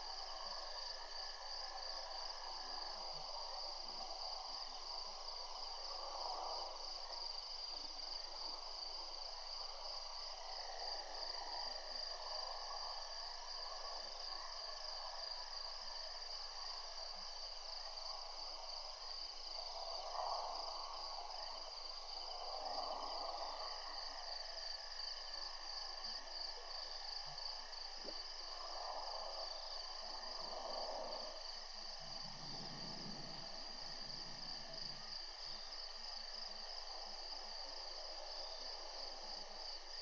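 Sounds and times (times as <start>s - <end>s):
insect chorus trilling: 0.1s - 40.0s.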